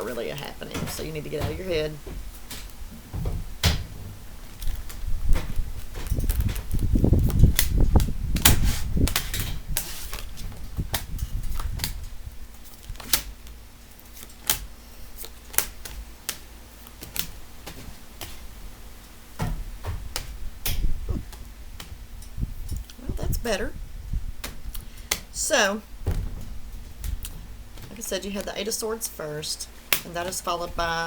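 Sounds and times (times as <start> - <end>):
card handling rumble: 0.0 - 31.0.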